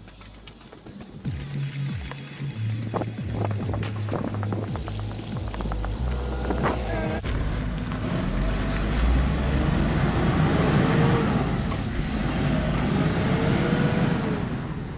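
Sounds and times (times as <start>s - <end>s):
road noise: 0.0s - 14.9s
vehicle engine rumbling: 0.0s - 14.9s.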